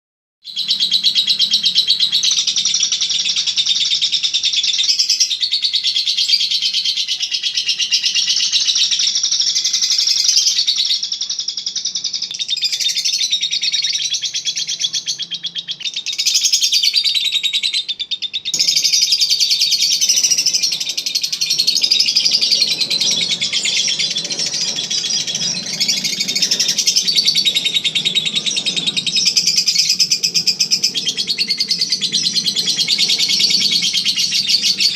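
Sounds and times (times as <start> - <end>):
lovebird chattering trill: 0.5 - 34.9.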